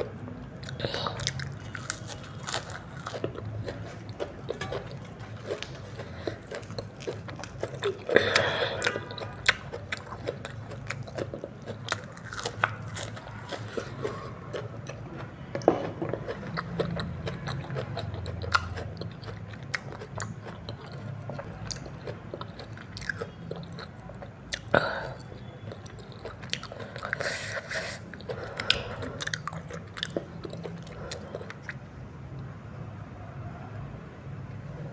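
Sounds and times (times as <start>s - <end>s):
person chewing noodles: 0.0s - 31.9s.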